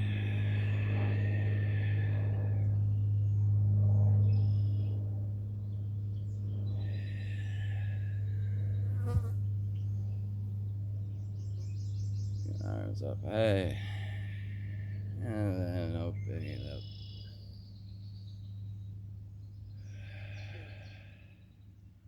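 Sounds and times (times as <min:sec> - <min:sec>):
low buzzing hum: 0:00.0 - 0:22.0.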